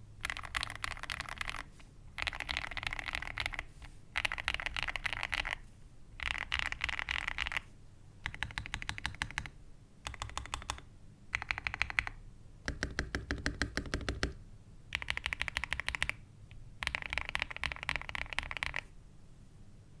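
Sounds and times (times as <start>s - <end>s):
mechanical keyboard typing: 0.2s - 5.6s, 6.2s - 16.2s, 16.8s - 18.9s.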